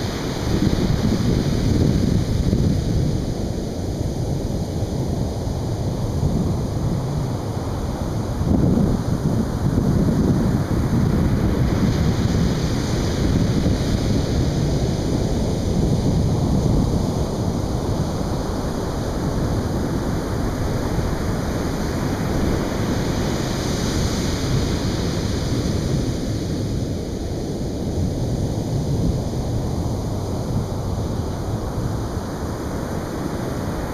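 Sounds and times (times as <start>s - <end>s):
ocean surf breaking on beach: 0.0s - 4.6s, 5.2s - 33.9s.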